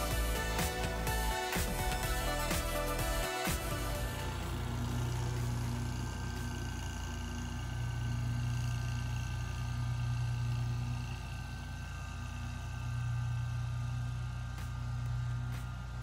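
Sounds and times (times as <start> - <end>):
riding mower engine droning: 0.0 - 16.0.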